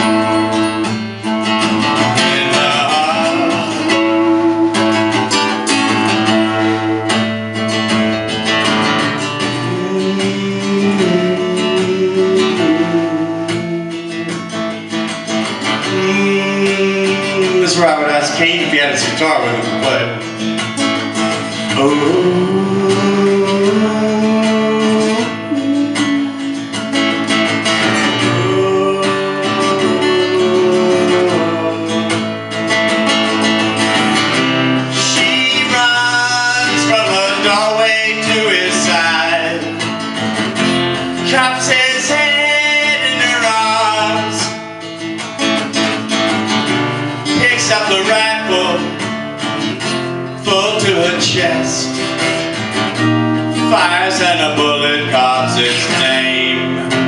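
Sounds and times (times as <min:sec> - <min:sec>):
acoustic guitar strummed and picked: 0:00.0 - 0:57.0.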